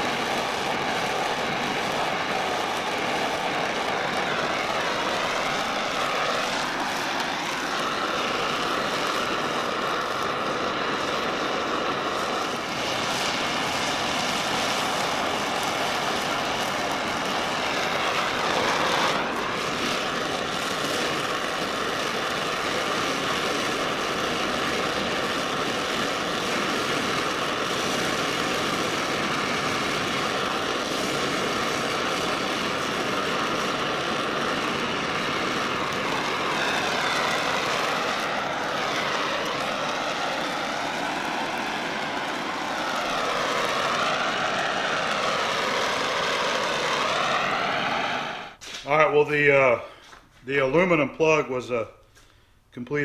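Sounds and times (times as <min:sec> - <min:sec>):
torch flame hissing: 0:00.0 - 0:53.0.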